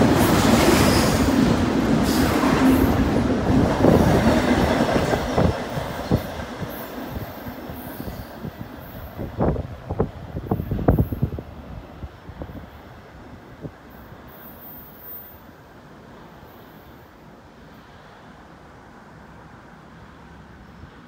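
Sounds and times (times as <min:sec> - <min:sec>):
freight train rolling on rails: 0:00.0 - 0:21.0.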